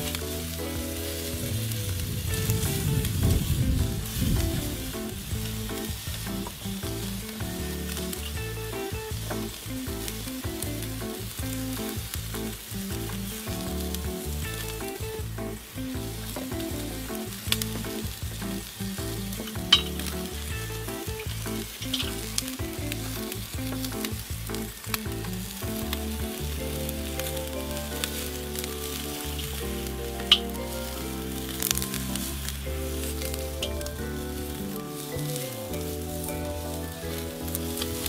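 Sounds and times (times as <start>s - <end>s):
fat popping: 0.0s - 38.0s
steaks sizzling on grill: 0.0s - 38.0s.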